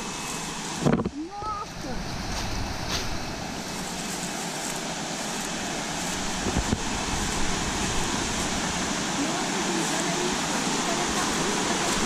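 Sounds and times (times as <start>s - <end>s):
water rushing down rocky stream: 0.0s - 12.0s.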